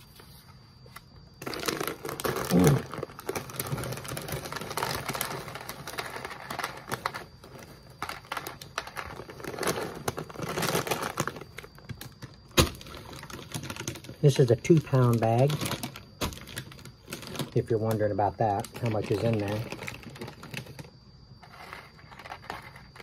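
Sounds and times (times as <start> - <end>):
plastic snack bag crinkling: 1.4 - 23.0.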